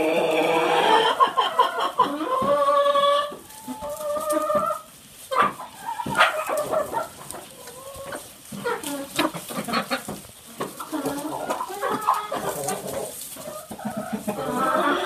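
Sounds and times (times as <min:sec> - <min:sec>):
chicken clucking and calling: 0:00.0 - 0:15.0.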